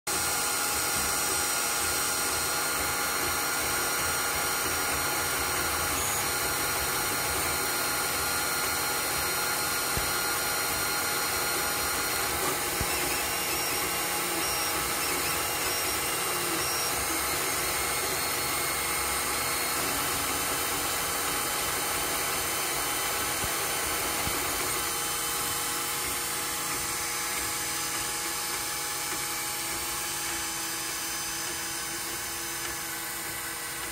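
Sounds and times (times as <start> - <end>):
printer motors and fans whining: 0.1 - 33.9.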